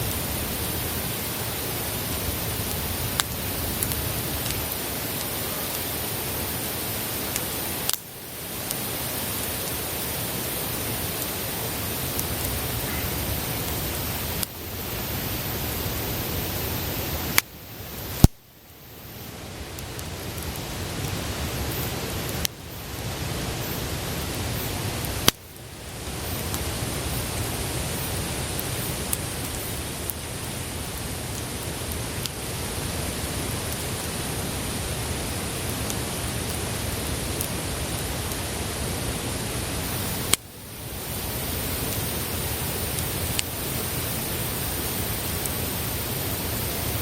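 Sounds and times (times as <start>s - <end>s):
campfire hissing: 0.0s - 47.0s
wood fire crackling: 0.0s - 47.0s.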